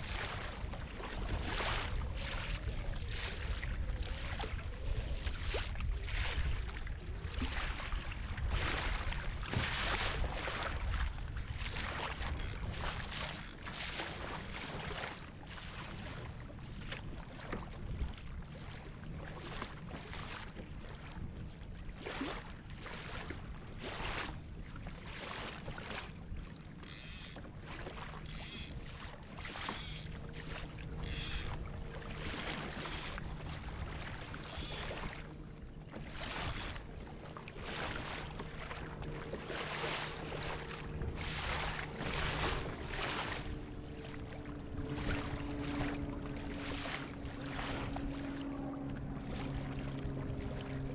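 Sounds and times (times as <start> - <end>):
water splashing against kayak: 0.0 - 50.9.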